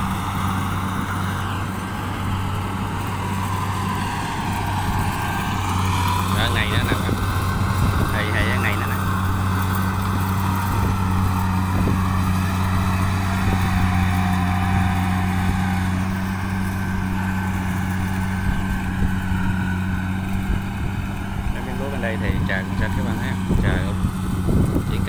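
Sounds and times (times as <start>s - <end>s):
combine harvester engine humming: 0.0s - 25.0s.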